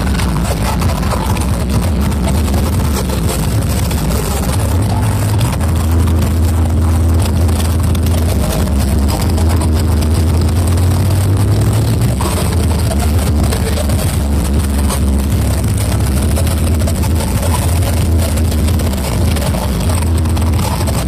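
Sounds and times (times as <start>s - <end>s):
distorted noise wash: 0.0s - 21.0s
heavy bass drone: 0.0s - 21.0s.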